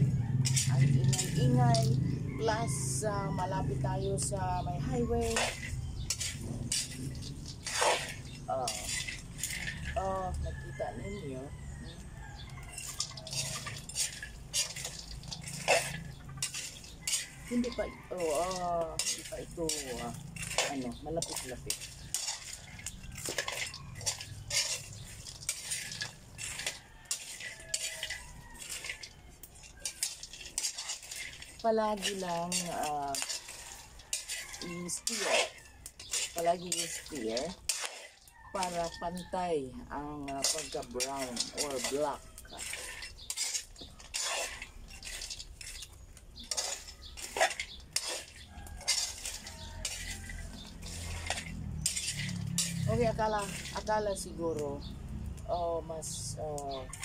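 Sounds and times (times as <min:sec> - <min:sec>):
metal spoon scraping beans in pan: 0:00.0 - 0:57.0.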